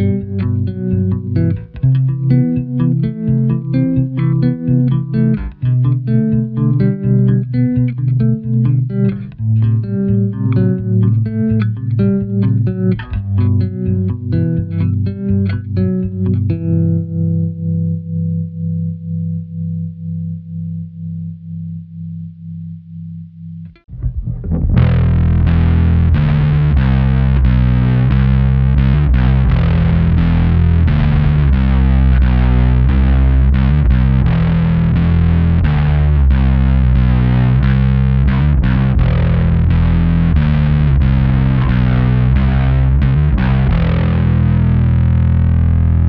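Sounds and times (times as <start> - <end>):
distorted electric bass riff: 0.0 - 46.0
electric bass with tremolo: 0.0 - 46.0.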